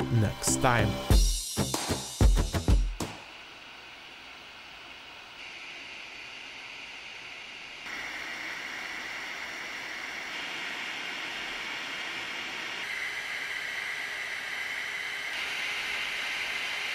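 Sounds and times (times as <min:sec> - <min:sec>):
blower fans whining: 0:02.8 - 0:16.9.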